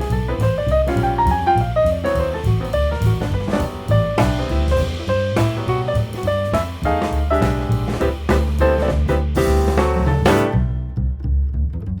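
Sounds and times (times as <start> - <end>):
upbeat jazz music: 0.0 - 12.0.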